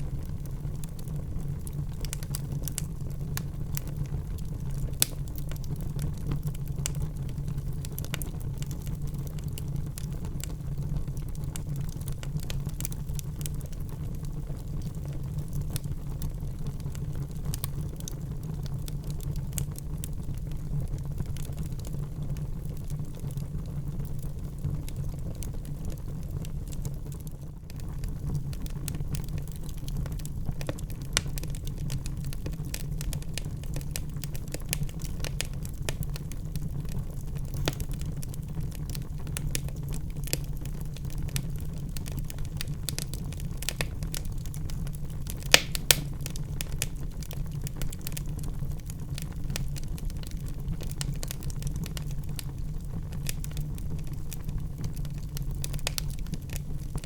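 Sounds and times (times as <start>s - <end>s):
fire crackling: 0.0s - 57.0s
fire popping: 0.0s - 57.0s
fire rumbling: 0.0s - 57.0s.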